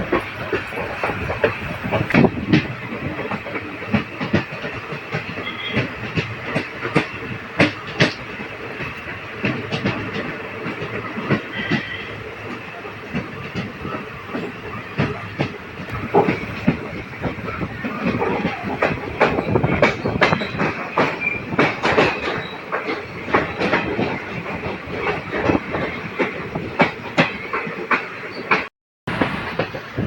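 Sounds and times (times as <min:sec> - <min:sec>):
train wheels rumbling on rails: 0:00.0 - 0:30.0
wheels clacking over rail joints: 0:00.0 - 0:30.0.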